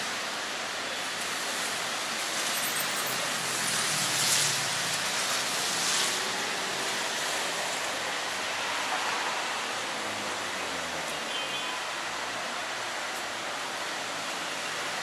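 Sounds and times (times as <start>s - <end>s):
rain on a street: 0.0s - 15.0s.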